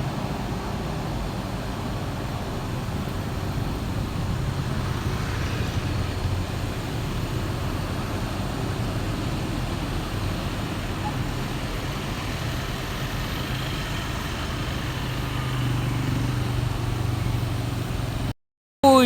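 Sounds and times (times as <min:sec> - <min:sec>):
truck diesel engine rumbling: 0:00.0 - 0:18.3
road traffic noise: 0:00.0 - 0:19.0.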